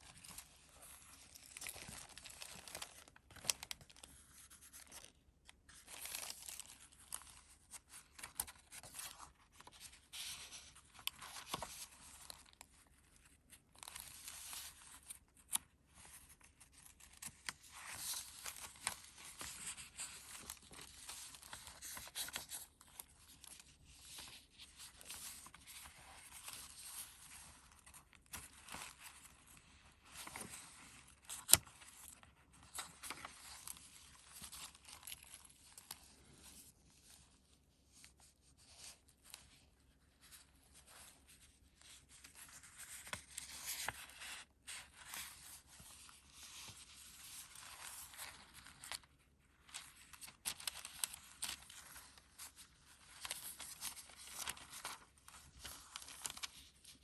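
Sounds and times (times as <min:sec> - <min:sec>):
paper pages rustling: 0:00.0 - 0:57.0.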